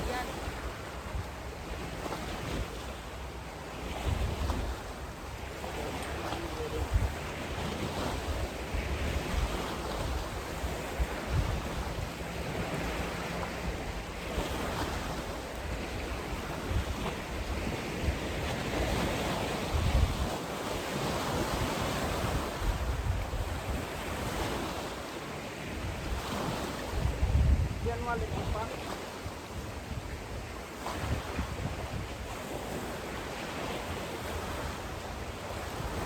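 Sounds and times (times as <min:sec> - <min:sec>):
small lake waves: 0:00.0 - 0:36.0
wind buffeting microphone: 0:03.6 - 0:24.9, 0:25.6 - 0:36.0.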